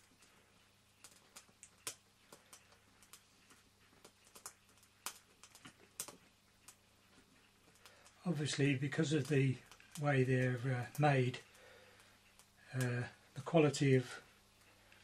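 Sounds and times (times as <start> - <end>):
light clicks and taps from handling: 1.0 - 13.2.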